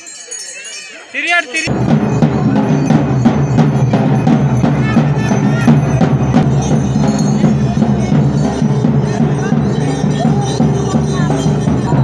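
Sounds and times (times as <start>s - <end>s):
bell-like ringing: 0.0s - 12.0s
drums beating: 1.6s - 12.0s.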